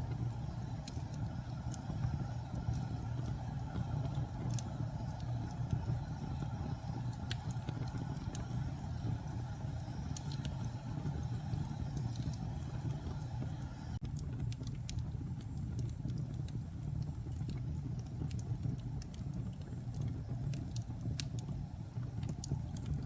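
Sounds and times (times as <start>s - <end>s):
fire crackling and popping: 0.0s - 23.0s
fire roaring: 0.0s - 23.0s.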